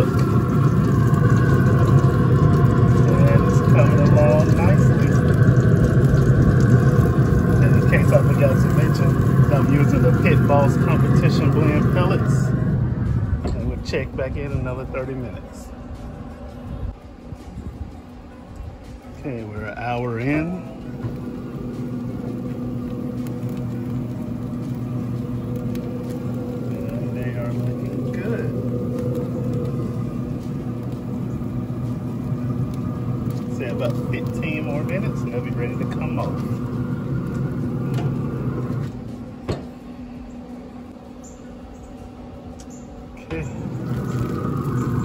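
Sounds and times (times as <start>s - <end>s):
grill fan humming: 0.0s - 45.0s.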